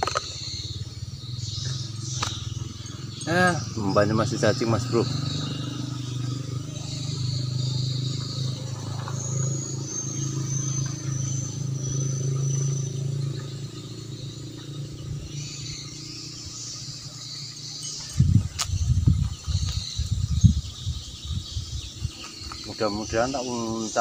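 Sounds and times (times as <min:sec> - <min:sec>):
engine drone: 0:00.0 - 0:24.0
thin high chirps: 0:00.0 - 0:24.0.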